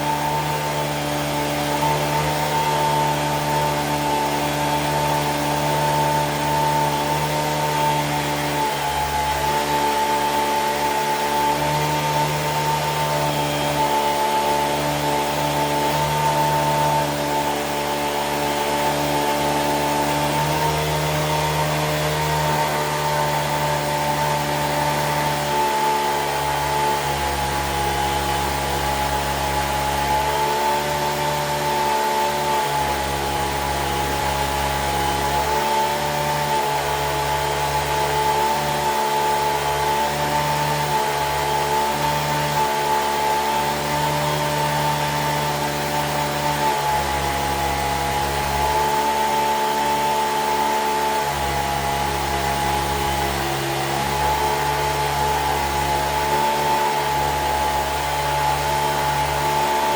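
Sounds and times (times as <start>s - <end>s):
electric motor whining: 0.0s - 59.9s.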